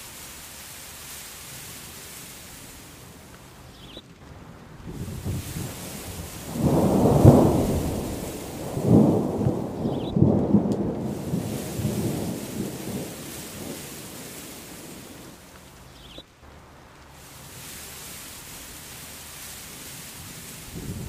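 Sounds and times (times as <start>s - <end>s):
steady hiss: 0.0s - 21.0s
thunder rumbling: 1.0s - 16.0s, 17.3s - 21.0s.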